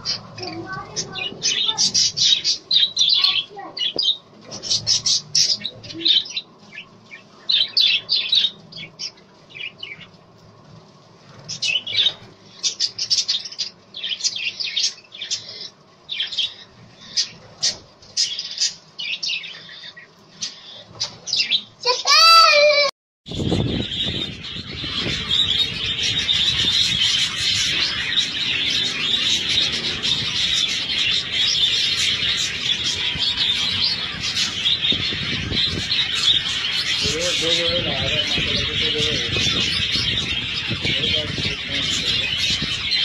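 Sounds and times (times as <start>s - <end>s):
budgerigars chattering and chirping: 0.0s - 10.1s, 11.4s - 21.7s, 23.3s - 43.0s.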